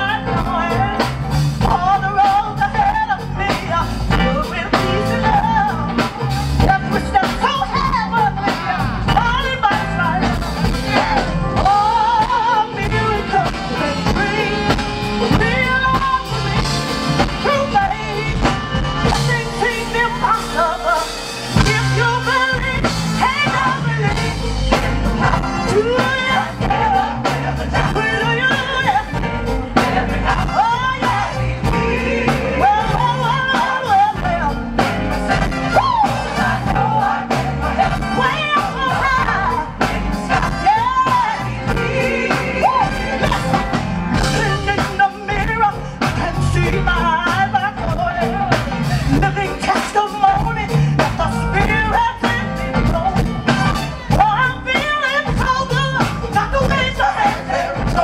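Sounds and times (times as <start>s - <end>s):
band with drum kit: 0.0s - 58.0s
gospel choir singing: 0.0s - 58.0s
woman singing lead: 0.0s - 58.0s.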